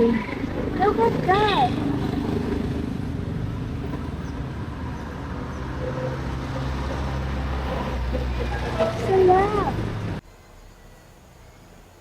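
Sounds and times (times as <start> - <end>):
road traffic rumble: 0.0 - 12.0
vehicle engine low hum: 0.0 - 12.0.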